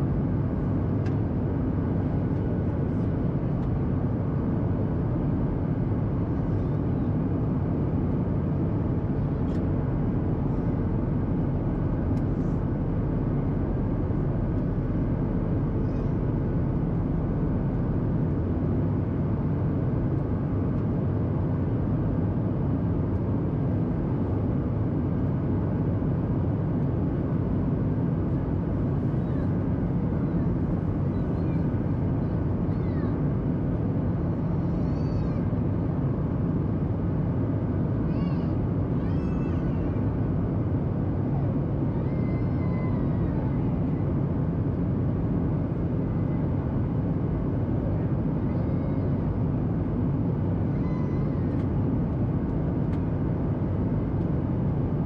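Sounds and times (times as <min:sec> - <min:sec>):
jet engine hum: 0:00.0 - 0:39.0, 0:39.6 - 0:55.0.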